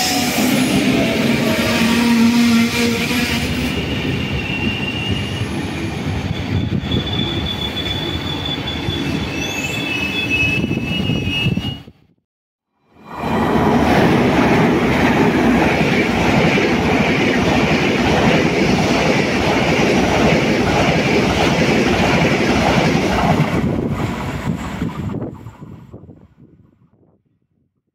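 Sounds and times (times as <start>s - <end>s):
high-speed train passing: 0.0s - 12.0s, 12.8s - 26.7s.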